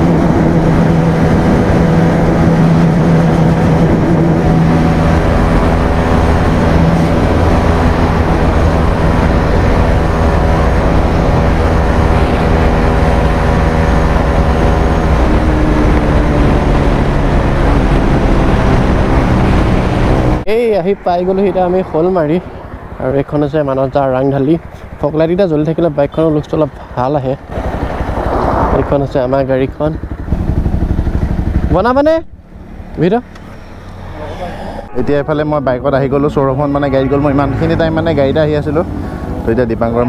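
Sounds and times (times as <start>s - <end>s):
motorcycle engine running: 0.0s - 20.5s, 21.2s - 34.2s
wind and road noise: 0.0s - 40.0s.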